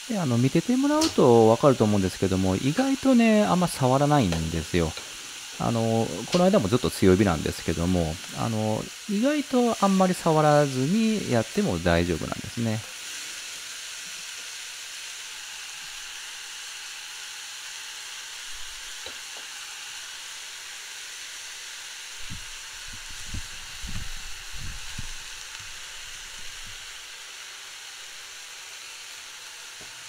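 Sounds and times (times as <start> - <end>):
onion sizzling in hot oil: 0.0 - 30.0.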